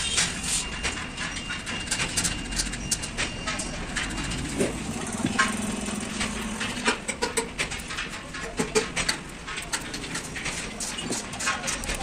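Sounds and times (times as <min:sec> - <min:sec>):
metal parts clicking and tapping: 0:00.0 - 0:12.0
steady low hum: 0:00.7 - 0:12.0.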